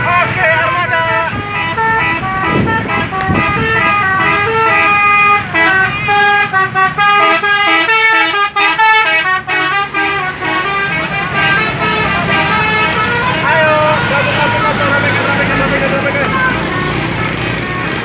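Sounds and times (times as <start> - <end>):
bus engine running: 0.0 - 18.0
musical bus horn tune: 0.0 - 18.0.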